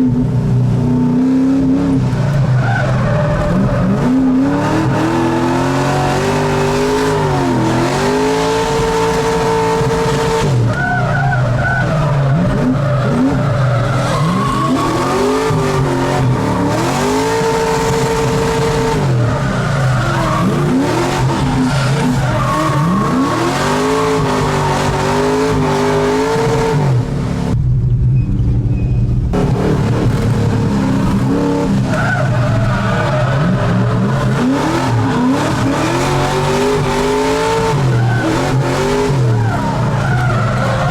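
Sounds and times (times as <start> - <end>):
car engine revving hard: 0.0 - 27.6, 29.3 - 40.9
tyres squealing: 2.3 - 26.8, 31.5 - 40.9.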